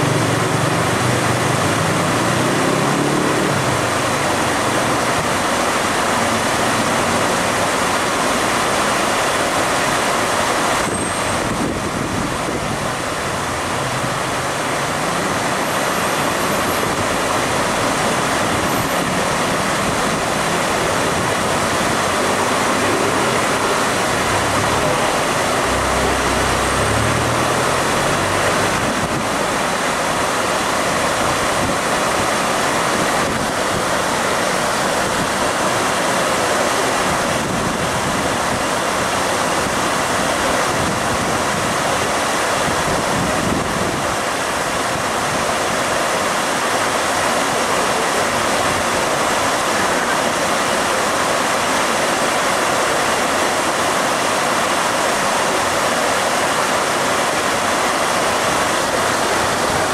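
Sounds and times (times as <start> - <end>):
water rushing in canal: 0.0 - 59.9.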